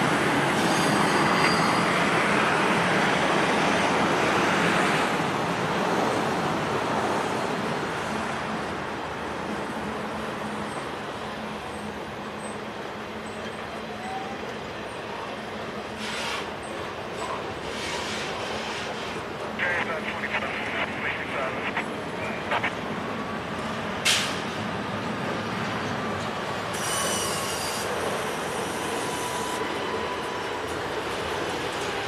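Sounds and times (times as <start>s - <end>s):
train wheels on rail: 0.0s - 19.6s, 21.6s - 32.0s.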